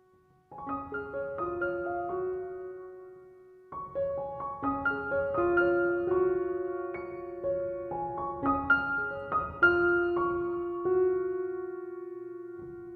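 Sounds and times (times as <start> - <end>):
gentle piano melody: 0.0 - 12.9.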